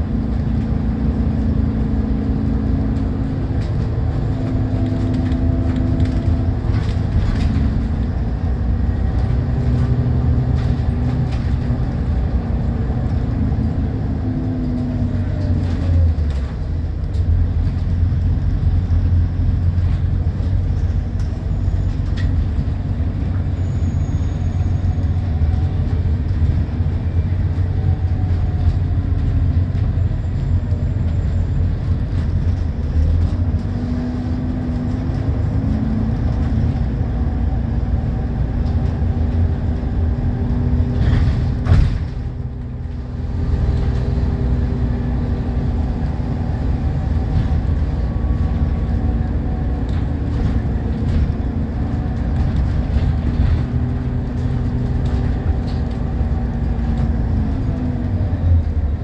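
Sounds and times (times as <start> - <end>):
diesel bus engine drone: 0.0 - 59.0.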